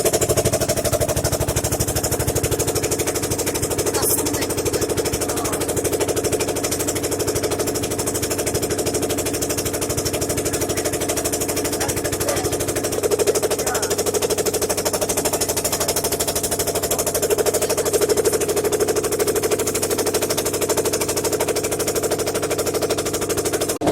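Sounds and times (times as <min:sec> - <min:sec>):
motor boat engine chugging: 0:00.0 - 0:23.9.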